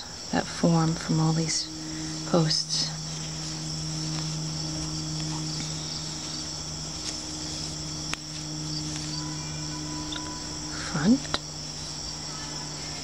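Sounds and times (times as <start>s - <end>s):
high-pitched insect chorus: 0.0s - 13.0s
low steady hum: 0.0s - 13.0s.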